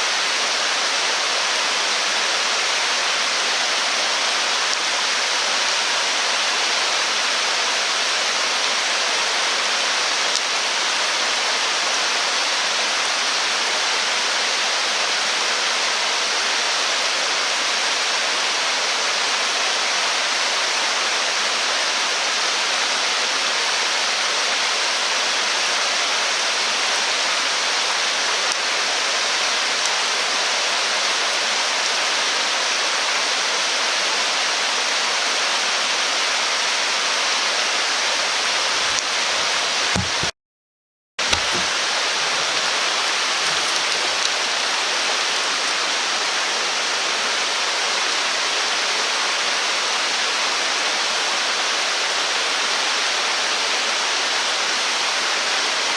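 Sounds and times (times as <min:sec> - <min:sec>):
stream rushing: 0:00.0 - 0:40.3, 0:41.2 - 0:55.9.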